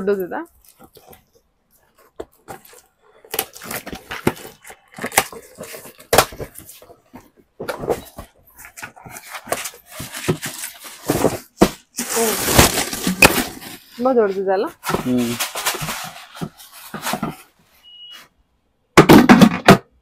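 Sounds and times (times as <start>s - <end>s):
plastic wrapping crinkling: 0.5s - 17.5s
cardboard rustling and scraping: 0.6s - 17.6s.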